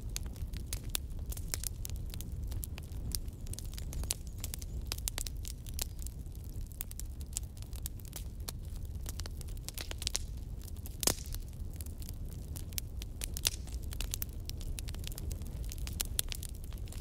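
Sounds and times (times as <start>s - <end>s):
logs crackling and popping: 0.0s - 17.0s
low rumble of flame: 0.0s - 17.0s.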